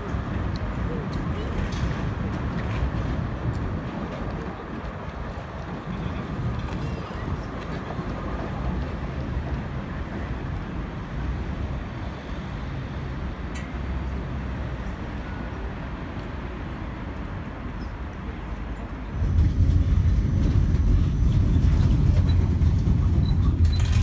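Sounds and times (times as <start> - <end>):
city street traffic rumble: 0.0 - 24.0
tram rolling past: 0.0 - 24.0.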